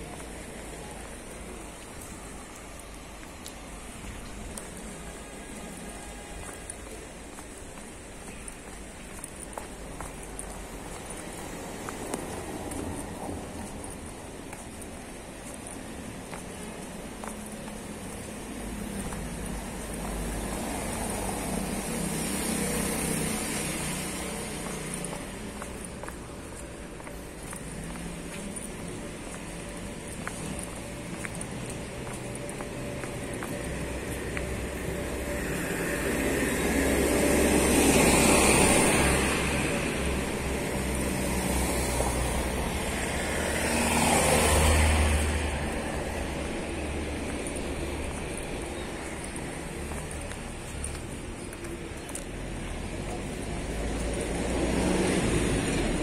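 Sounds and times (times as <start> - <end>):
cars passing by: 0.0 - 56.0.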